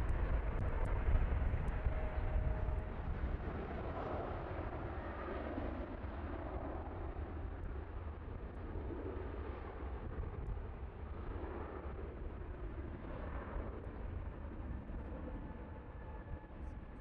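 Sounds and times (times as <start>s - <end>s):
jet engines low rumbling: 0.0s - 17.0s.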